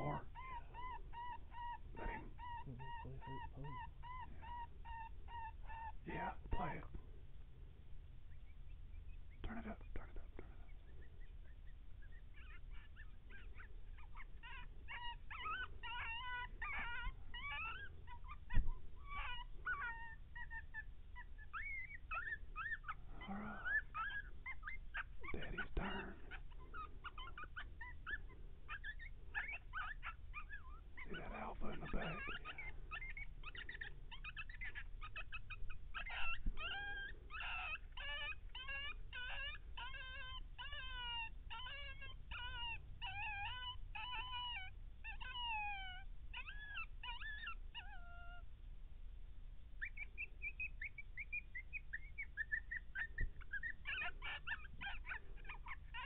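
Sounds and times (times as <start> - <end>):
coyotes yipping and howling: 0.0 - 7.0, 8.1 - 48.6, 49.8 - 56.0.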